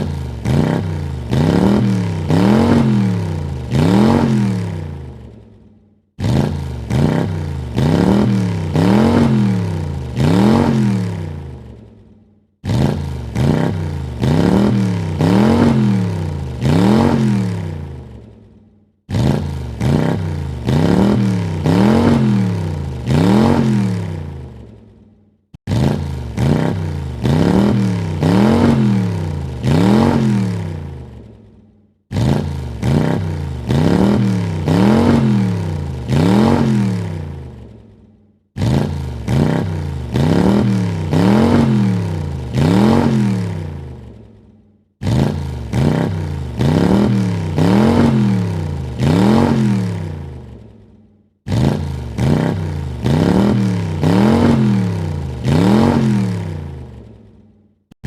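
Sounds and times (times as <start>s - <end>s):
car engine revving: 0.0s - 5.4s, 6.2s - 11.9s, 12.6s - 18.3s, 19.1s - 24.8s, 25.6s - 31.4s, 32.1s - 37.8s, 38.6s - 44.3s, 45.0s - 50.7s, 51.5s - 57.1s.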